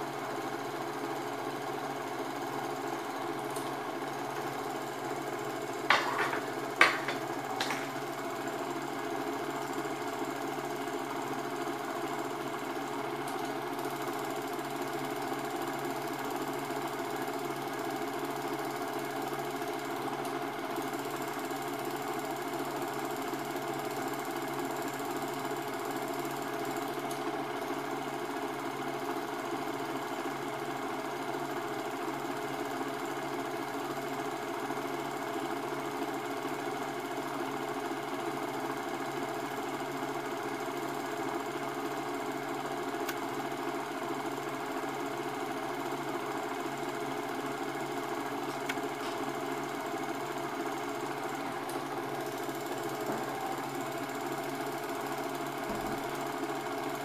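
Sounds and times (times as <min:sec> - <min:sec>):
film projector clatter and whirr: 0:00.0 - 0:57.0.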